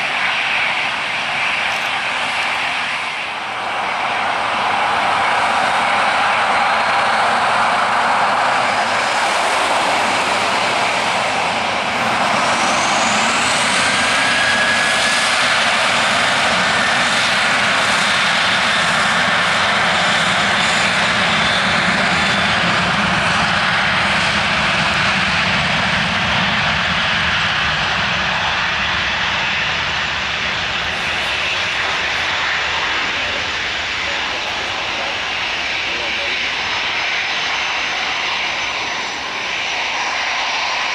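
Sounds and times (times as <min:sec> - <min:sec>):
jet engines spooling up: 0:00.0 - 0:40.9.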